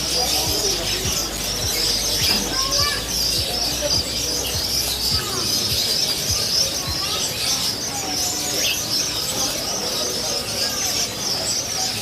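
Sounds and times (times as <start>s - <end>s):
small birds chirping and chattering: 0.0s - 12.0s.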